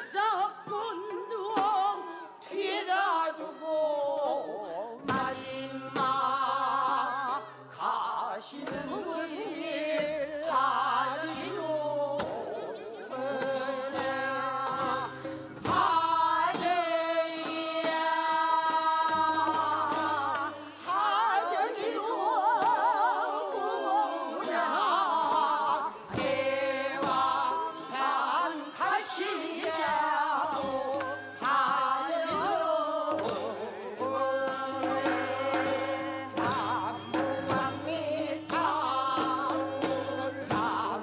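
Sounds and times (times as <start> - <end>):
woman singing with vibrato: 0.0 - 41.0.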